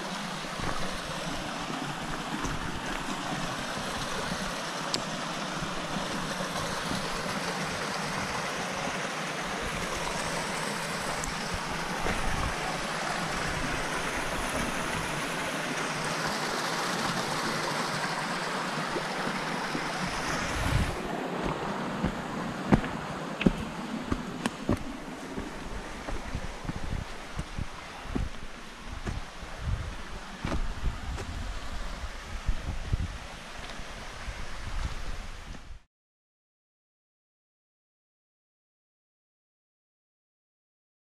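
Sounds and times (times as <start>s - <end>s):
water rushing: 0.0s - 35.5s.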